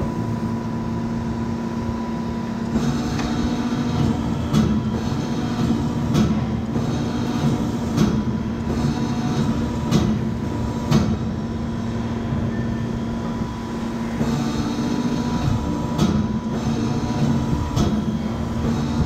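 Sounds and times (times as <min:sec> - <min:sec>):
bending machine humming: 0:00.0 - 0:19.0.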